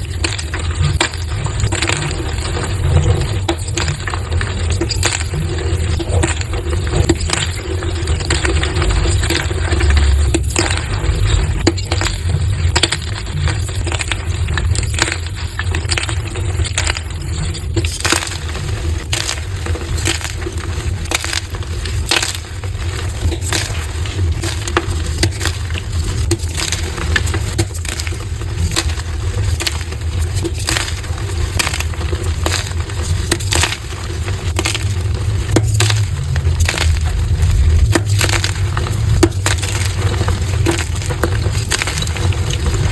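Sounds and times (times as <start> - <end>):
chalk blocks crunching: 0.0 - 42.9.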